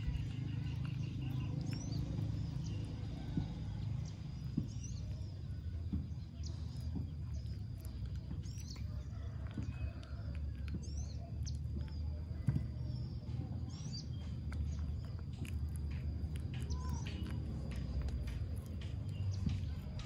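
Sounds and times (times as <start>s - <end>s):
otter chewing fish: 0.0s - 20.0s
sharp crunching clicks: 0.0s - 20.0s
steady low rumble: 0.0s - 20.0s.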